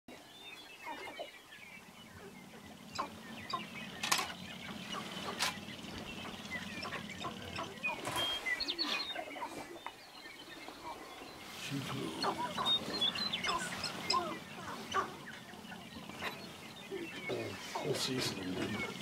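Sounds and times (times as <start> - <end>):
grouse clucks and chirps: 0.1 - 19.0.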